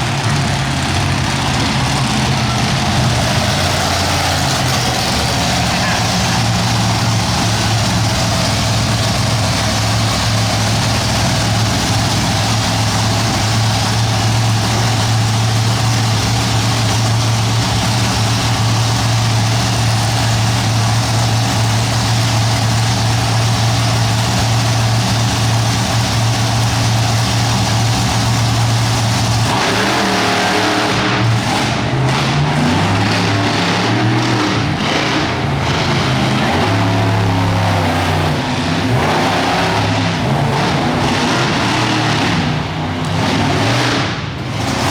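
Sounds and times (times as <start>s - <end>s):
truck engine running and revving: 0.0s - 44.9s.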